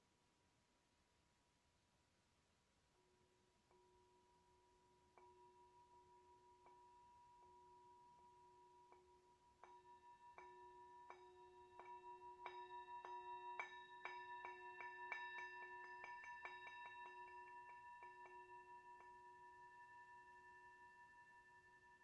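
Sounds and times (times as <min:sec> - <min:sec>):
soft strikes on ringing metal: 0:03.6 - 0:22.0.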